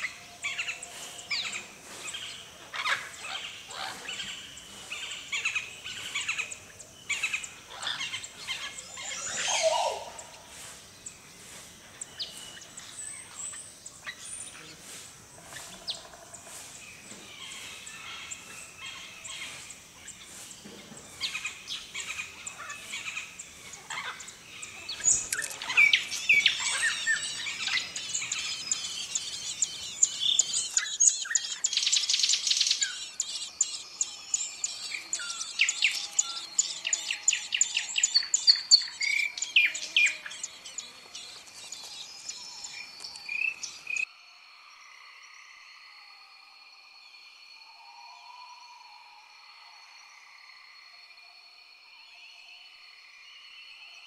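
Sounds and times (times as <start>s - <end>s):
songbirds chirping: 0.0s - 44.1s.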